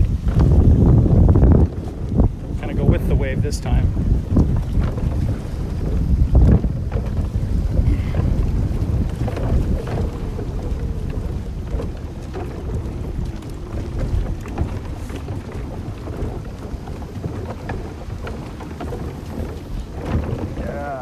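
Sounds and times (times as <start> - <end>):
knocks from dock: 0.0 - 21.0
water sloshing: 0.0 - 21.0
wind rumbling on microphone: 0.0 - 21.0.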